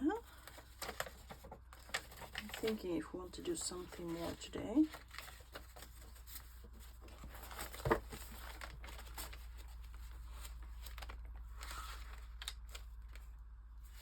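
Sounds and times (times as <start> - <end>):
paper rustling and handling: 0.1 - 14.0.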